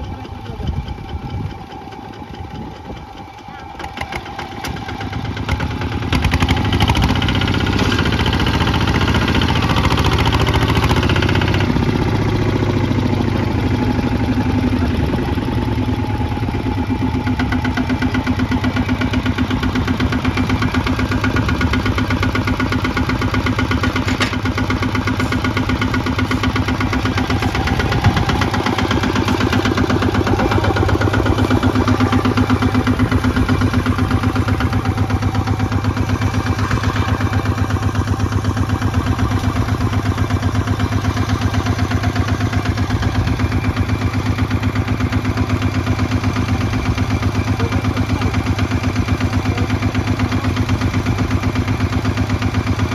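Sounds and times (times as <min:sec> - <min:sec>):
diesel engine chugging: 0:00.0 - 0:52.9.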